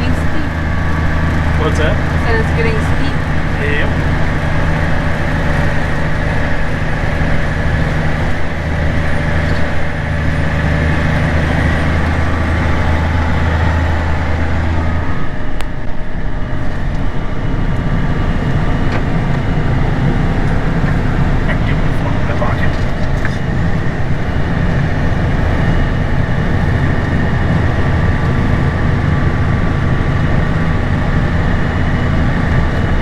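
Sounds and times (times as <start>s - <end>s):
heavy diesel engine droning: 0.0s - 33.0s.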